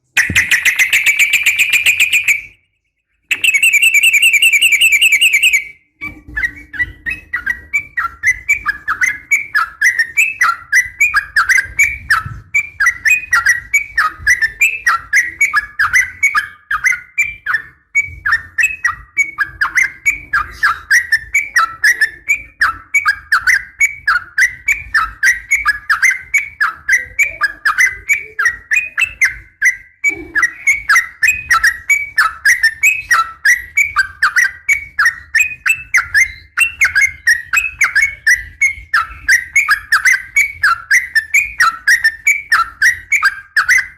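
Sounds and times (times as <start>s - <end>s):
bird calling in rapid chirps: 0.0s - 2.6s, 3.3s - 12.2s, 12.8s - 43.9s.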